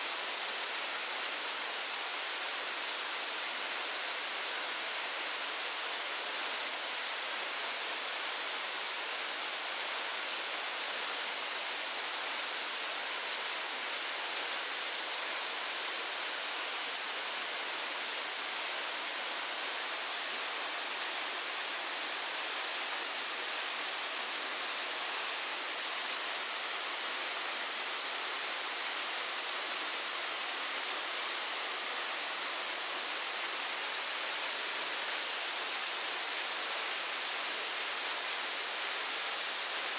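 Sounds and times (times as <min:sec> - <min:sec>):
high-pitched water hiss: 0:00.0 - 0:39.9.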